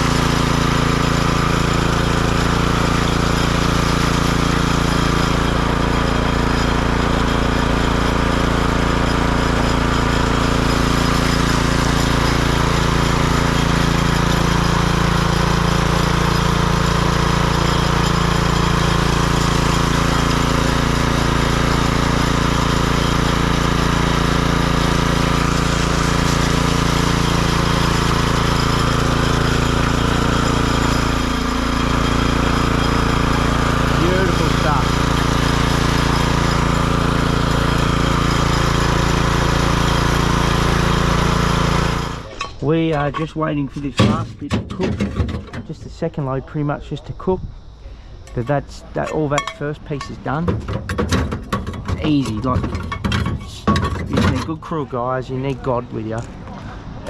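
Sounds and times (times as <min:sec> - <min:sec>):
concrete power trowel running: 0:00.0 - 0:47.2, 0:48.2 - 0:57.0.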